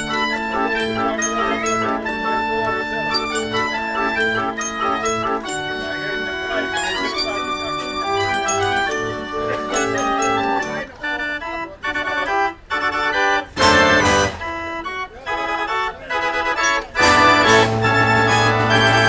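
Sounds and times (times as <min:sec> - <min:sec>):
fairground organ playing chords: 0:00.0 - 0:19.0.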